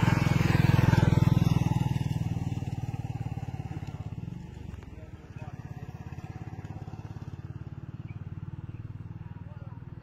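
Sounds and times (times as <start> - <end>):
vehicle engine passing by: 0.0 - 10.0.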